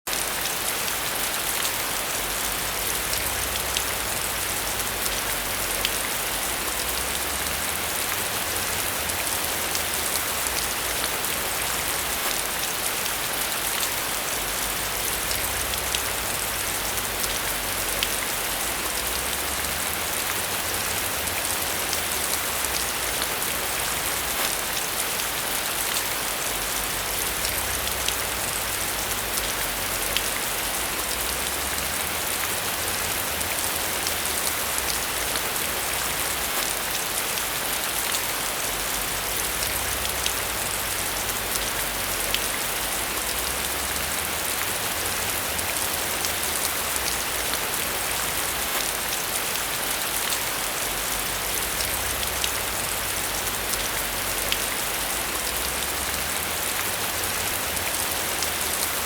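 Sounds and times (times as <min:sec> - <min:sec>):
steady rain hiss: 0:00.1 - 0:59.0.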